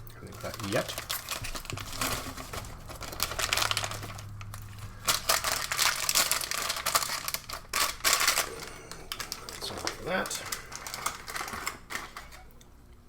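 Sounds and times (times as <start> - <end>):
plastic packaging crinkling: 0.1 - 12.7.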